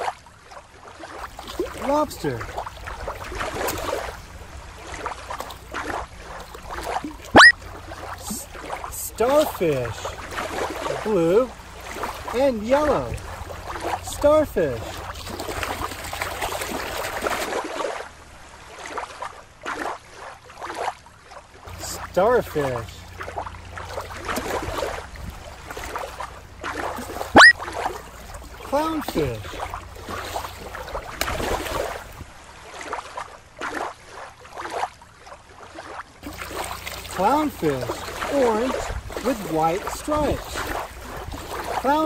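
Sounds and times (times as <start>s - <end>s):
soft water swells: 0.0s - 42.0s
water splashing and sloshing: 0.0s - 42.0s.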